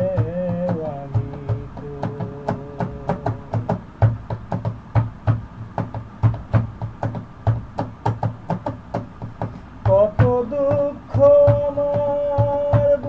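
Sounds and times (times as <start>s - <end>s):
knock-like percussion beats: 0.0s - 13.0s.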